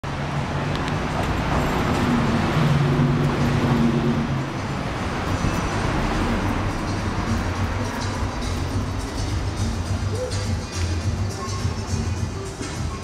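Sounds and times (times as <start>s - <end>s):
city street traffic: 0.0s - 13.0s
vehicle engine humming: 0.0s - 13.0s.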